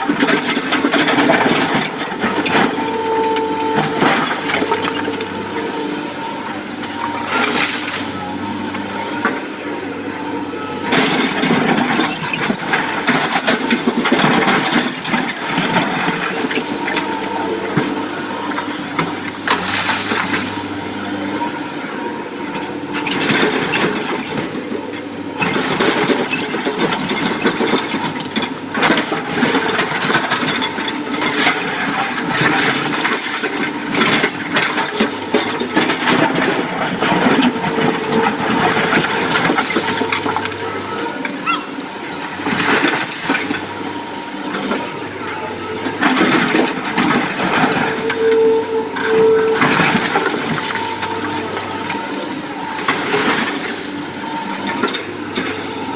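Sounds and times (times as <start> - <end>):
excavator engine running: 0.0 - 55.9.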